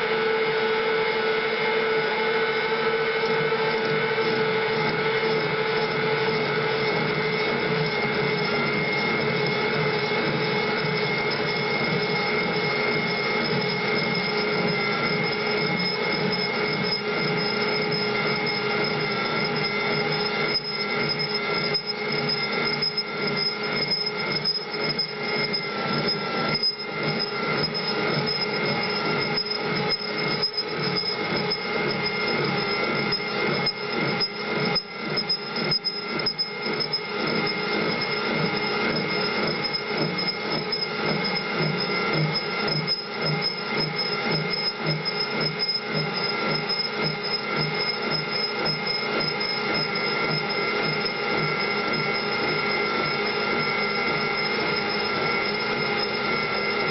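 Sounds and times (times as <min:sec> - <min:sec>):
machine tool grinding metal: 0:02.6 - 0:56.9.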